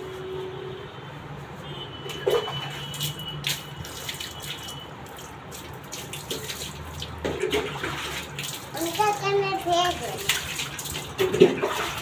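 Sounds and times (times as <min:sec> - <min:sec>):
water splashing on concrete: 0:02.1 - 0:12.0.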